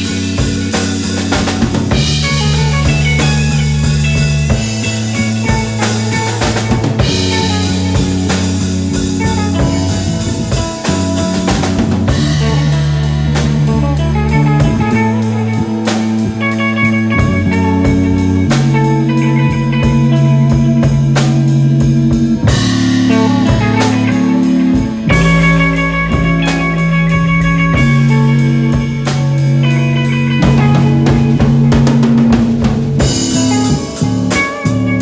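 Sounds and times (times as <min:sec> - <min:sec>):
drum kit beat: 0:00.0 - 0:35.0
electric guitars playing: 0:00.0 - 0:35.0
sustained bass notes: 0:00.0 - 0:35.0.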